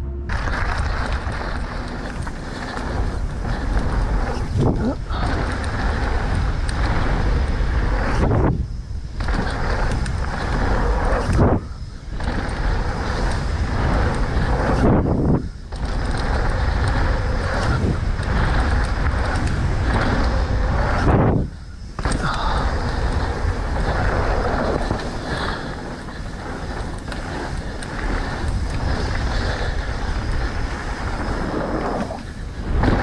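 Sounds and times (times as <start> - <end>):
bike rattling: 0.0 - 33.0
tyres rumbling on dirt: 0.0 - 33.0
wind rushing over microphone: 0.0 - 33.0.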